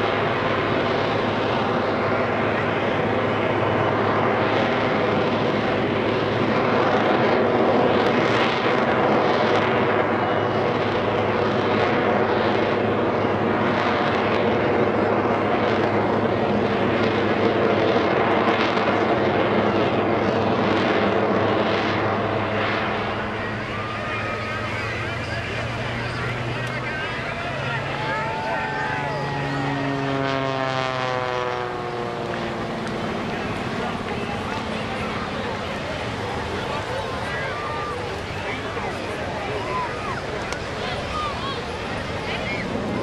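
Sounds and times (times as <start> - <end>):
aerobatic plane engines roaring: 0.0 - 43.0.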